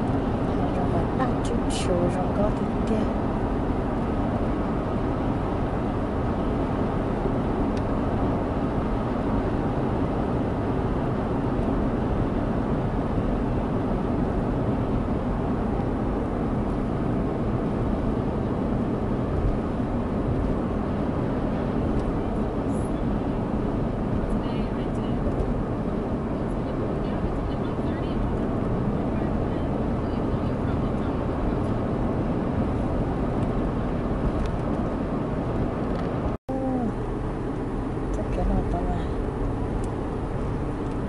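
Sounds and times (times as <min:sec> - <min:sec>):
car cabin road noise: 0:00.0 - 0:41.0.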